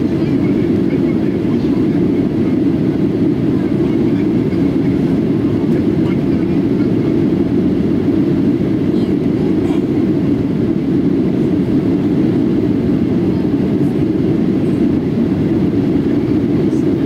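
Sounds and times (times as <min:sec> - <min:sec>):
jet cabin low rumble: 0:00.0 - 0:17.0.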